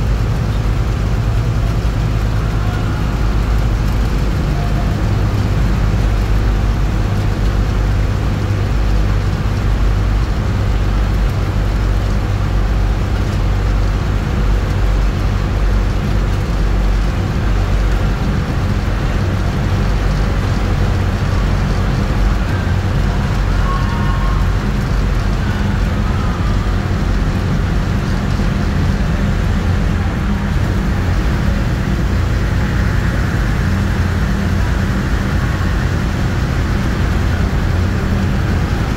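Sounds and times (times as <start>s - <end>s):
vehicle engine and tyre noise: 0.0s - 38.9s.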